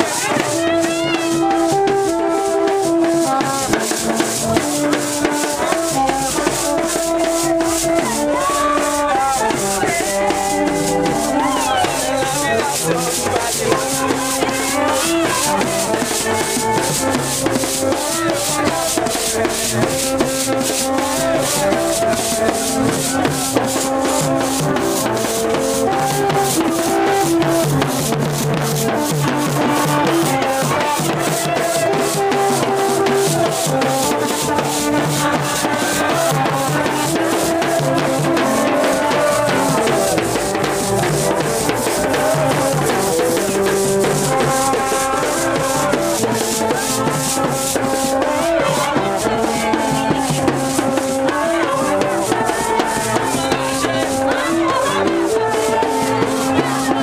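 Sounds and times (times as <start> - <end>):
hand drums: 0.0 - 57.0
rattling shaker: 0.0 - 57.0
stick-beaten drum: 0.0 - 57.0.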